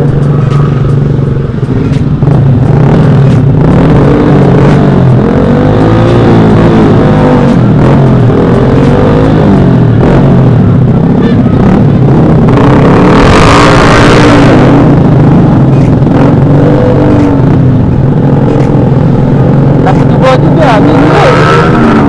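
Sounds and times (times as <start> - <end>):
motorcycle engines revving: 0.0 - 22.0
rush of noise: 0.0 - 22.0.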